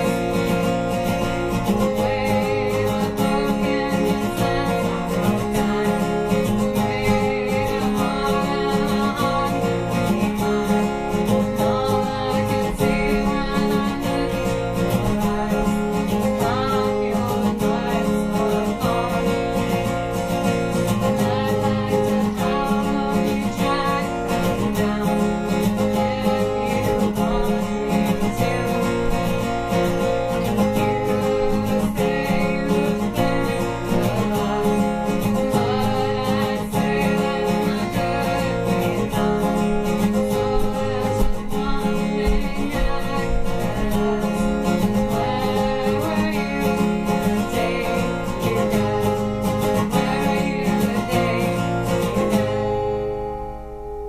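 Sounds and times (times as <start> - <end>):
woman singing: 0.0 - 53.4
acoustic guitar strumming: 0.0 - 54.0.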